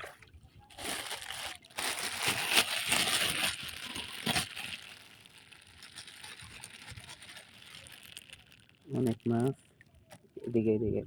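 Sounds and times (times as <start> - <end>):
fish flapping and slapping: 0.0 - 9.0.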